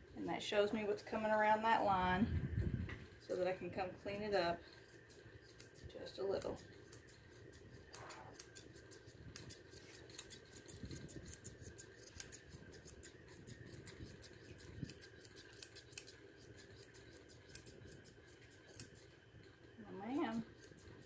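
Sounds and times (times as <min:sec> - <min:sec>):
grooming shears snipping hair: 0:03.3 - 0:19.2, 0:19.8 - 0:21.0.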